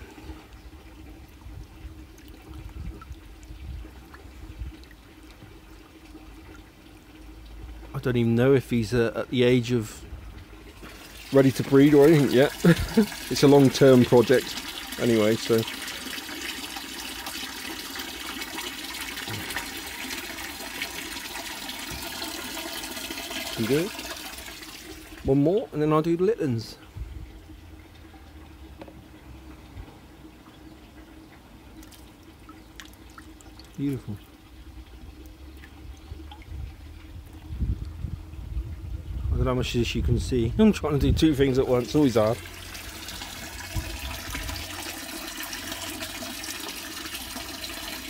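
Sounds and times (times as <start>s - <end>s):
water trickling and dripping: 0.0s - 48.0s.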